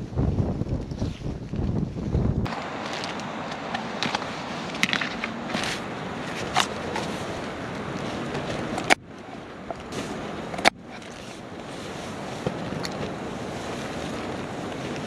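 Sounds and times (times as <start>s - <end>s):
steady rushing hiss: 2.5s - 15.0s.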